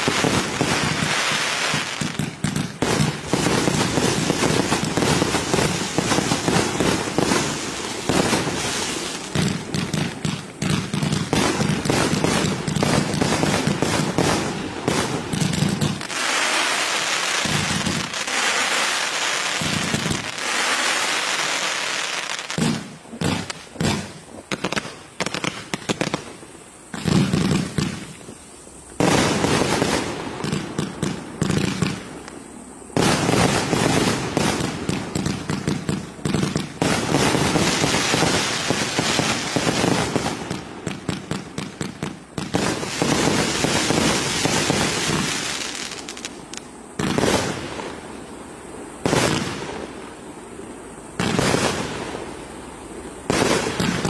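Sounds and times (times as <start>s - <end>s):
fireworks barrage: 0.0s - 54.0s.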